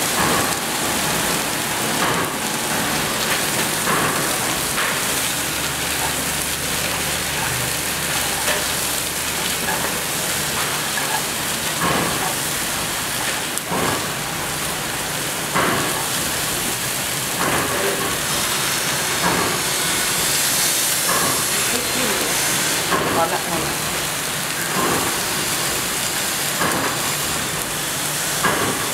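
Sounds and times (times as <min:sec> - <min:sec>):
noodles sizzling in a pan: 0:00.0 - 0:28.9.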